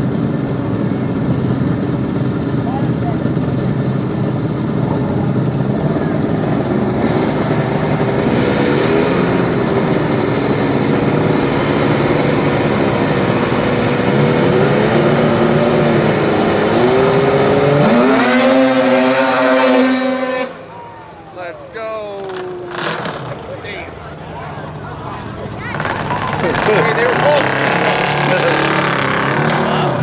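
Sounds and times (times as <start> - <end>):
lawn mower engines revving: 0.0 - 30.0.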